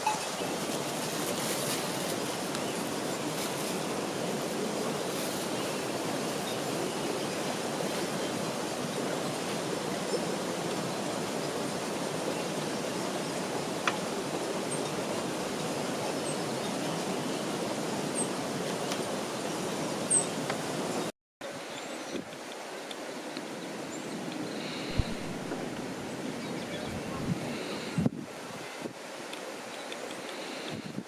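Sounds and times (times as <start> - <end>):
water rushing: 0.0 - 31.0.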